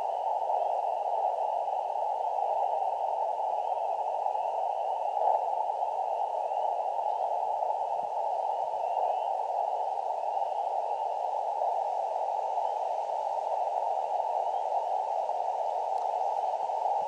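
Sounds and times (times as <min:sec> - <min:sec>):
radio band noise hiss: 0:00.0 - 0:17.0.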